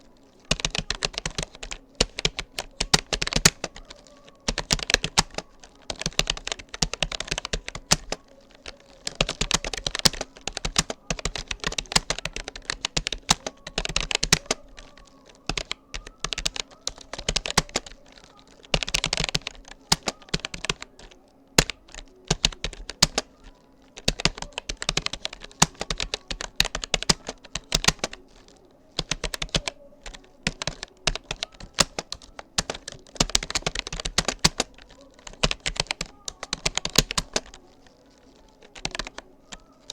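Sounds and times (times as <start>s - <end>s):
computer keyboard key clicks: 0.4s - 39.9s.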